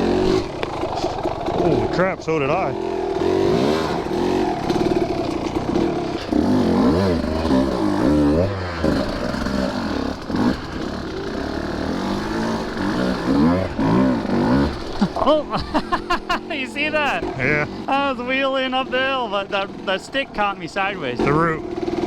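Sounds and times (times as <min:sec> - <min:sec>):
two-stroke dirt bike revving: 0:00.0 - 0:22.0.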